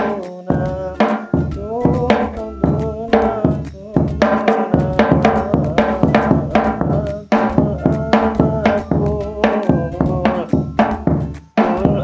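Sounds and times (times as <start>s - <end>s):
bass drum struck with mallet: 0.0s - 12.0s
hand drum ringing tones: 0.0s - 12.0s.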